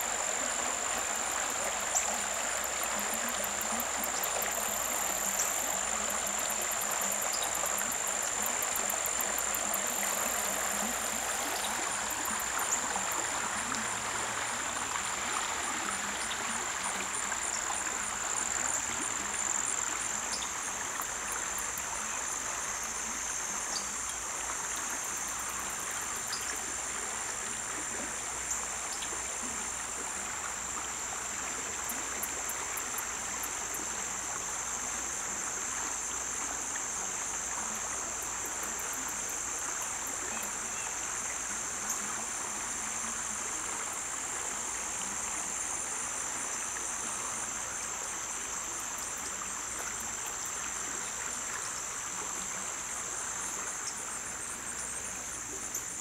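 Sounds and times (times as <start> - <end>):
creek running: 0.0 - 56.0
high-pitched insect chorus: 0.0 - 56.0.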